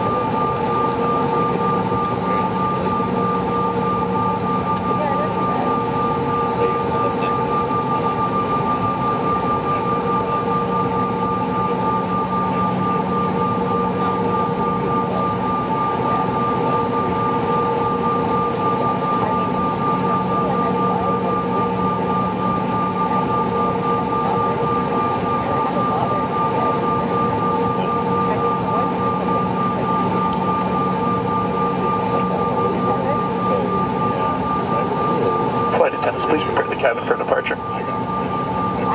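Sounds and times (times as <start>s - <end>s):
jet engine high whine: 0.0s - 38.9s.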